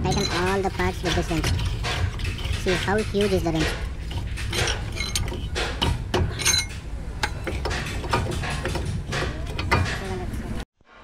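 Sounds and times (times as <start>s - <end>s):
wrench clanking on metal: 0.0s - 10.5s.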